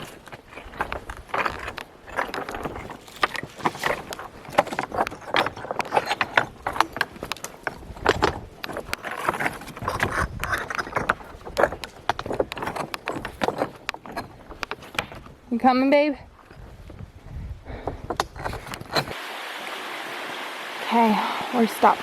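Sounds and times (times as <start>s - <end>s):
footsteps on a trail: 0.0s - 19.2s.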